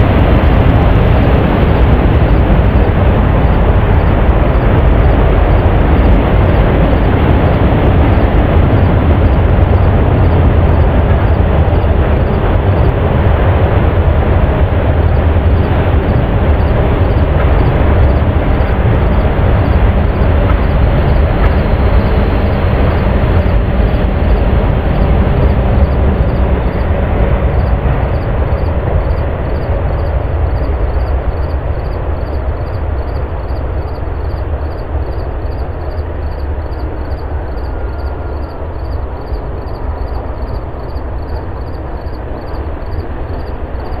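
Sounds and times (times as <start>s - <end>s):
passing engine rumble: 0.0s - 44.0s.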